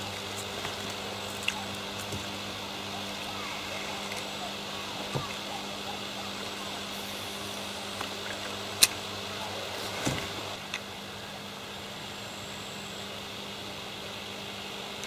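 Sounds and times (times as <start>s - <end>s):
faint high whine: 0.0s - 15.0s
low hum: 0.0s - 15.0s.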